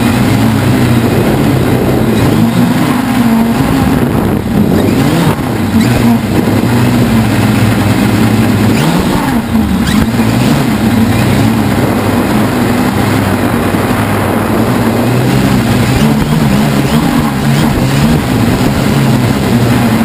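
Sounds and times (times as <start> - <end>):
quadcopter motors droning: 0.0 - 20.0.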